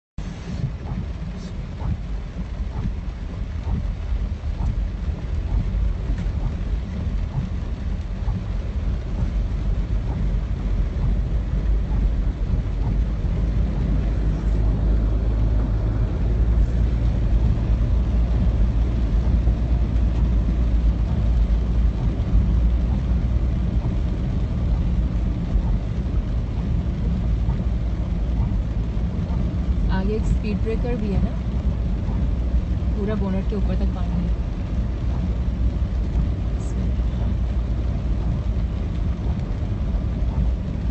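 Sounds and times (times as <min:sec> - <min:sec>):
car engine rumble: 0:00.2 - 0:40.9
water surging against car: 0:00.2 - 0:40.9.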